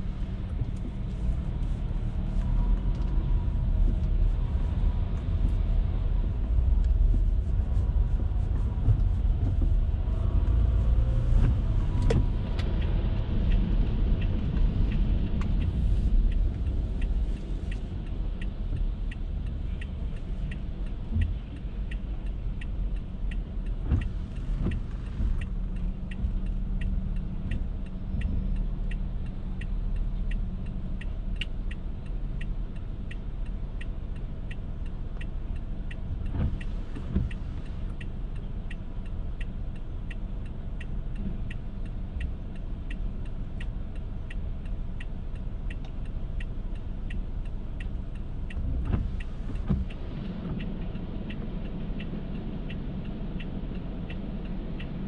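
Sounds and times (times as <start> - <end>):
car engine and road rumble: 0.0 - 55.0
light regular ticking: 0.0 - 55.0.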